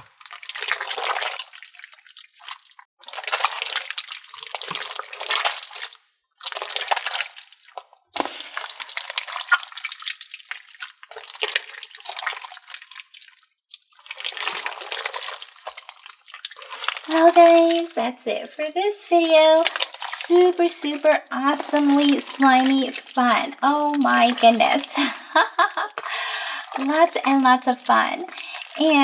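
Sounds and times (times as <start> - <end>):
slime squelching with crackling pops: 0.0 - 25.0.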